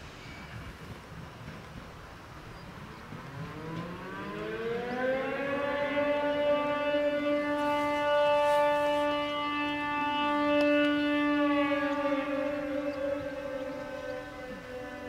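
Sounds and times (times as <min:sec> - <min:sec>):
electric train whine: 0:00.0 - 0:15.0.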